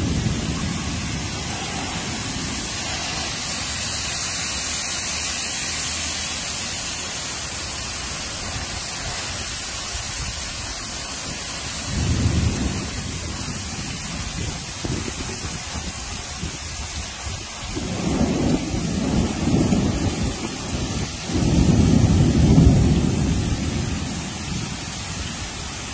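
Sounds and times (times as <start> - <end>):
heavy rain hissing: 0.0 - 25.9
thunder rumbling: 0.0 - 25.9.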